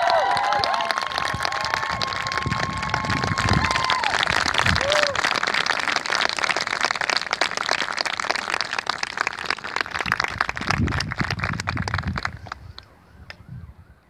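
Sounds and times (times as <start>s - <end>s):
crowd applauding: 0.0s - 12.8s.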